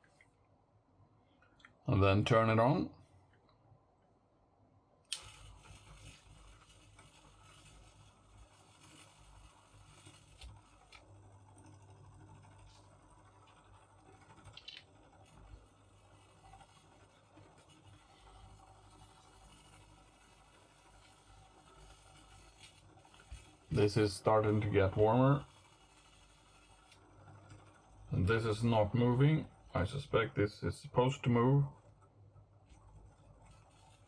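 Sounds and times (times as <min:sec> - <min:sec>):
small electric motor humming: 0:05.1 - 0:30.1, 0:31.0 - 0:34.0
faint ticks and scratches: 0:05.1 - 0:34.0.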